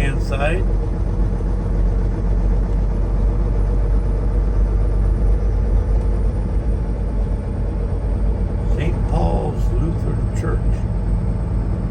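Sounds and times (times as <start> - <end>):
road noise: 0.0 - 11.9
truck diesel engine rumble: 0.0 - 11.9.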